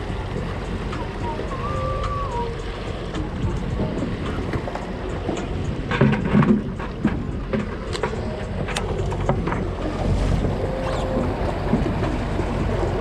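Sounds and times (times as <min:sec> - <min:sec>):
boat engine running: 0:00.0 - 0:13.0
water noise: 0:00.0 - 0:13.0
wind: 0:00.0 - 0:13.0.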